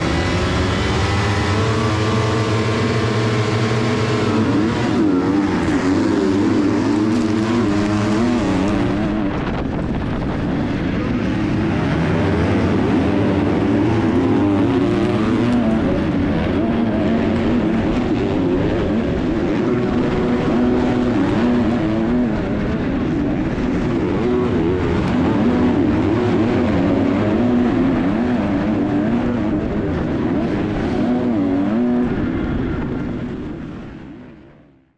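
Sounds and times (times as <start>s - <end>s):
motocross bike engine revving: 0.0s - 33.6s.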